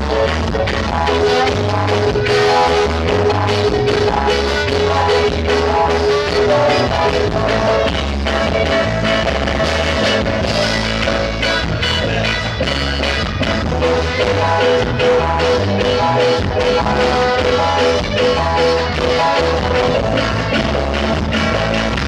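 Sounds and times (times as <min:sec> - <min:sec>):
band playing instrumental: 0:00.0 - 0:22.0
repeated melody figure: 0:00.0 - 0:22.0.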